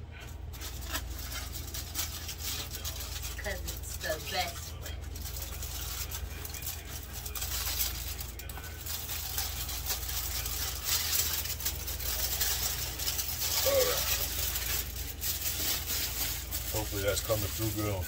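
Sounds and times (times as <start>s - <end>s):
aluminium foil crinkling: 0.2s - 18.0s.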